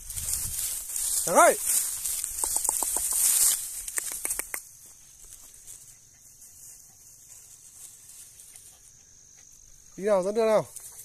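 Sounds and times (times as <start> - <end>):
footsteps on dry stubble: 0.0 - 9.8
high insect chirring: 0.0 - 11.0.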